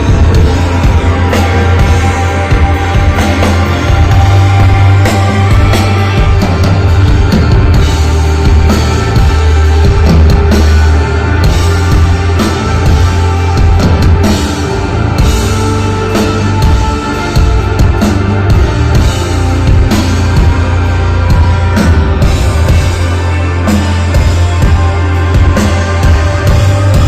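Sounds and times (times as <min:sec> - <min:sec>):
heavy bass line: 0:00.0 - 0:27.0
rock band playing live: 0:00.0 - 0:27.0.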